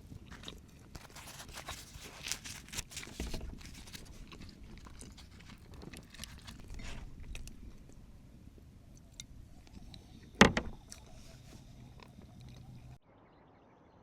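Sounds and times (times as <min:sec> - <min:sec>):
crunching and clicking: 0:00.0 - 0:13.0.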